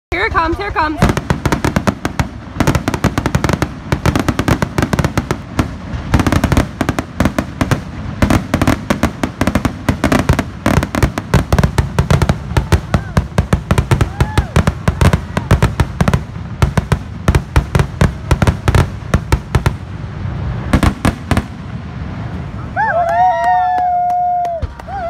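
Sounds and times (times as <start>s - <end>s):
fireworks crackling: 0.1s - 25.0s.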